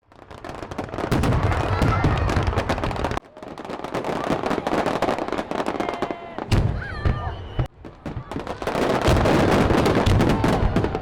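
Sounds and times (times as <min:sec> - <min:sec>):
fireworks crackling bursts: 0:00.0 - 0:11.0
fireworks deep booms: 0:00.0 - 0:11.0.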